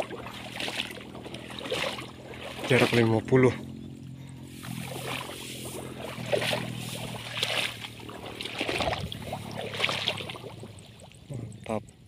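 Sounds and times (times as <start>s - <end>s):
water sloshing and splashing: 0.0s - 11.3s.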